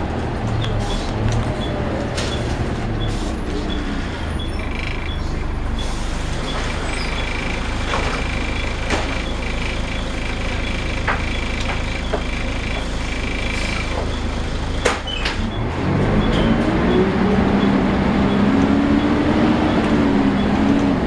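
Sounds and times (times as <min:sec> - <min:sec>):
bus diesel engine running: 0:00.0 - 0:21.0.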